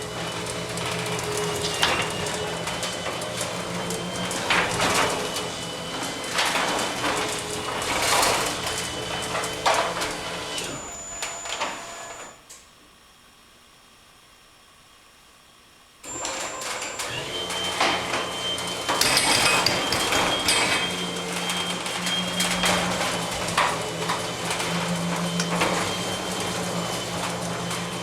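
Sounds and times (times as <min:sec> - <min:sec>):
garage door opener motor hum: 0:00.0 - 0:12.6, 0:16.0 - 0:28.0.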